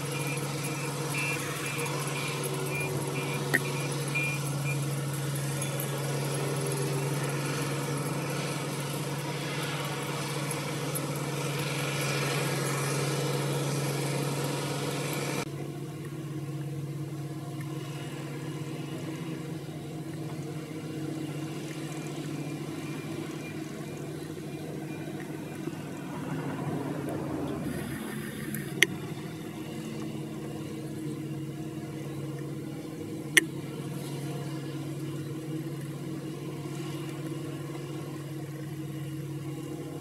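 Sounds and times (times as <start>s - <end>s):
diesel engines running: 0.0s - 40.0s
distant engine hum: 0.0s - 40.0s.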